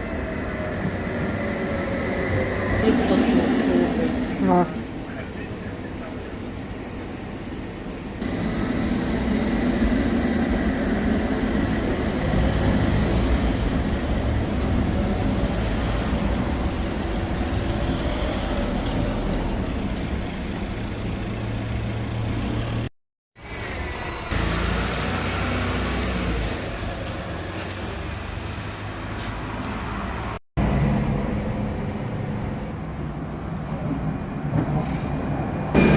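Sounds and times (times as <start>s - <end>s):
tram wheels and motor rumbling: 0.0s - 35.9s.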